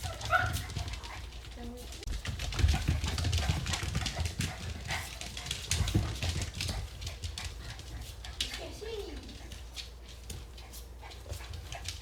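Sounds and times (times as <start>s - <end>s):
paws and claws scrabbling: 0.0s - 12.0s
puppies play-fighting: 0.0s - 12.0s.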